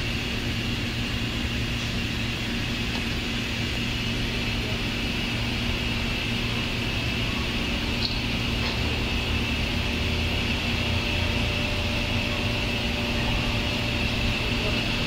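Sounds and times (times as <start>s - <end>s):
high whine: 0.0s - 15.0s
train equipment humming: 0.0s - 15.0s.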